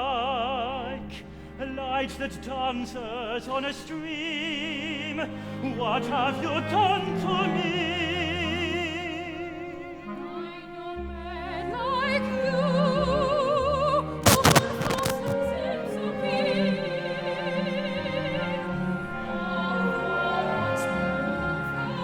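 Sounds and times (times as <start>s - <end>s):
opera music with small orchestra: 0.0s - 22.0s.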